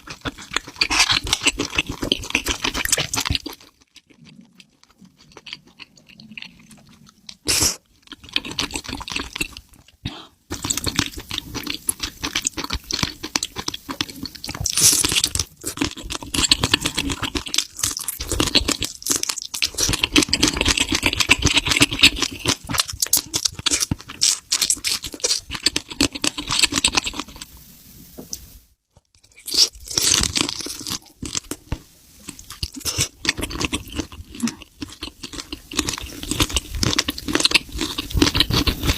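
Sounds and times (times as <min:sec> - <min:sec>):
crunching and chewing food: 0:00.0 - 0:27.5, 0:28.9 - 0:38.9.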